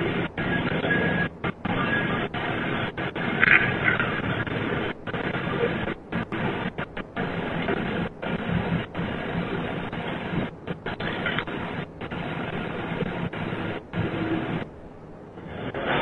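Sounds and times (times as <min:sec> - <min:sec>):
muffled rough noise: 0:00.0 - 0:16.0.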